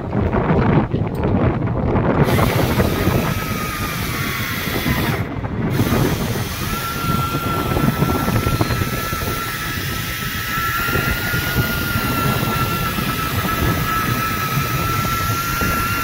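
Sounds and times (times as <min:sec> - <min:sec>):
boat engine running: 0:00.0 - 0:16.0
wind buffeting microphone: 0:00.0 - 0:16.0
thin high whine: 0:02.2 - 0:16.0.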